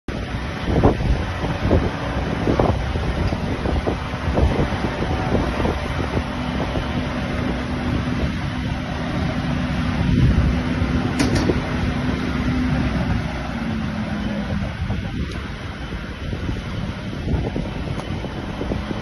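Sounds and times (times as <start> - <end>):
engine hum: 0.0 - 19.0
wind buffeting microphone: 0.1 - 19.0.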